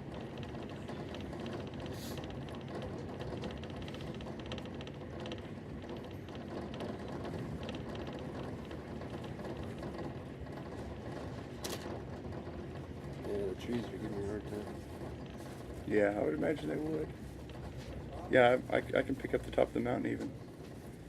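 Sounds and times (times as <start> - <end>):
fast uneven rattling: 0.0 - 21.0
train rumble inside carriage: 0.0 - 21.0.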